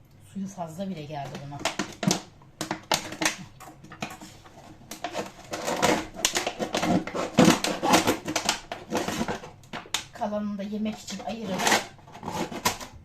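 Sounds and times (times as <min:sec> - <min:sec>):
kitchen objects clicking and clattering: 0:01.1 - 0:10.2, 0:10.8 - 0:13.0.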